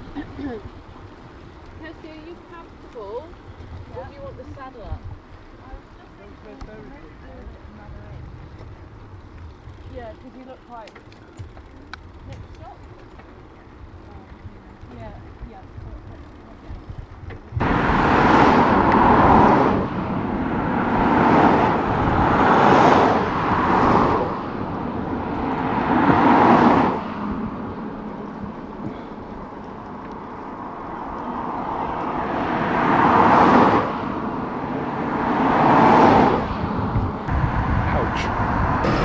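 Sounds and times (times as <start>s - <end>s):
wind rumbling on microphone: 0.0s - 10.3s, 11.3s - 39.0s
vehicles passing on road: 0.0s - 39.0s.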